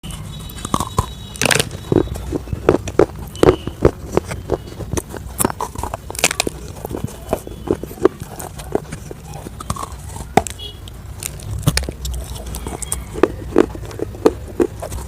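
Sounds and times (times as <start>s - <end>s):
crunchy food being chewed: 0.0s - 15.0s.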